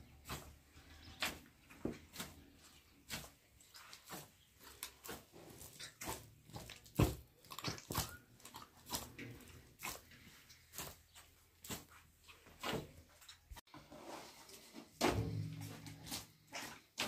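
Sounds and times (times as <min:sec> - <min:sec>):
dough squelching and slapping: 0:00.0 - 0:17.0.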